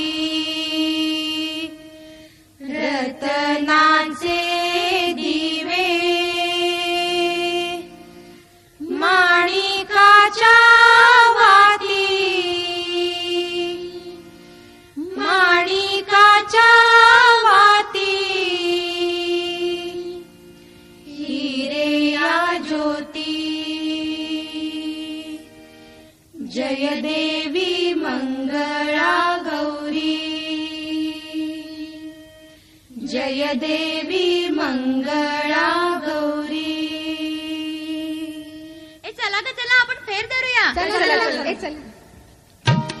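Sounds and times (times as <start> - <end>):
sustained accompaniment: 0.0 - 39.0, 41.0 - 43.0
person singing devotional song: 0.0 - 39.1.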